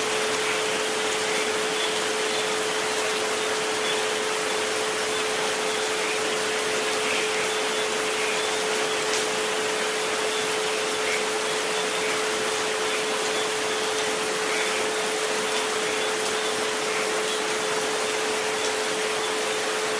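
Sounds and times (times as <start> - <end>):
rain hiss: 0.0 - 19.9.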